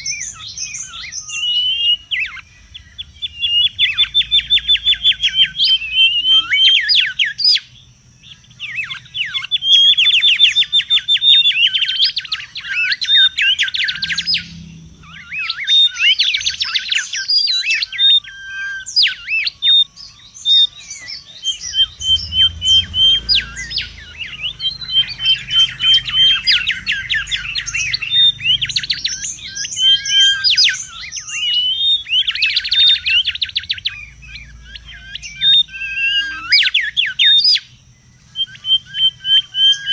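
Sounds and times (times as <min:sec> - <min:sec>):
bird calling sharp sweeping notes: 0:00.0 - 0:39.9.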